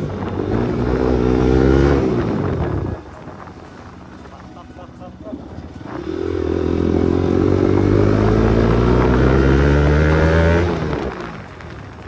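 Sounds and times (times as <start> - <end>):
motorcycle engine accelerating: 0.0 - 4.5, 5.1 - 12.0.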